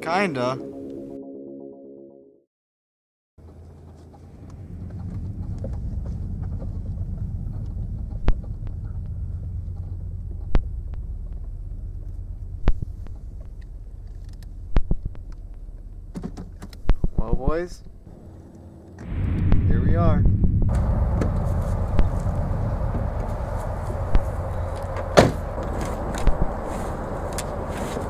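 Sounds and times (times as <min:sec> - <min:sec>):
car engine and road noise: 0:03.4 - 0:28.0.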